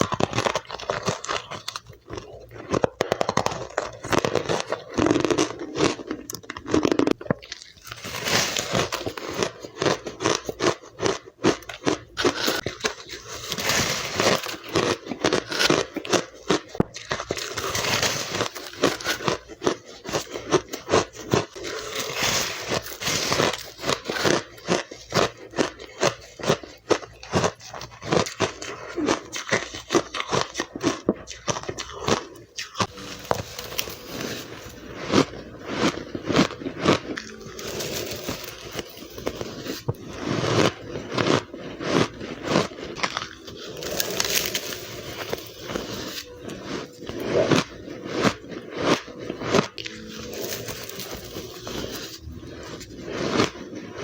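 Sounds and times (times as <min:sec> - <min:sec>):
ice crunching between teeth: 0:00.0 - 0:54.0.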